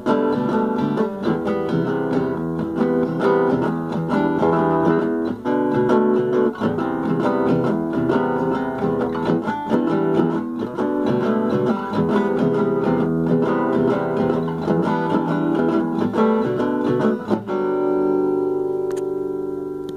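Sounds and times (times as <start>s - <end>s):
acoustic guitar playing: 0.0s - 19.9s.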